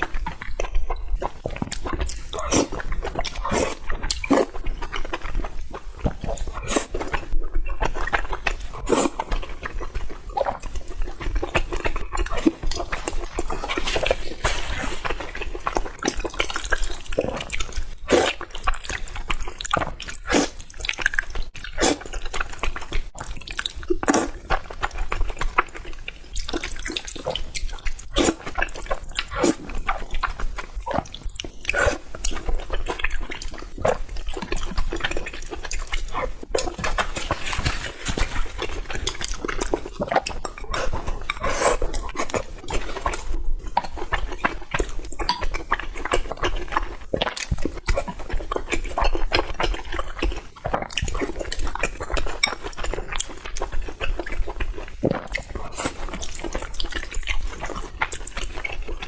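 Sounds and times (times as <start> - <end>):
wet chewing and lip-smacking: 0.0 - 59.0.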